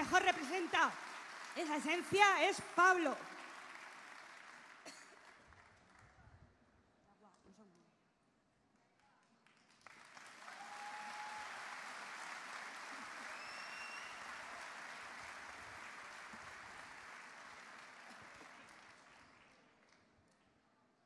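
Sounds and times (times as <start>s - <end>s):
large crowd applauding: 0.0s - 6.2s, 9.1s - 20.5s.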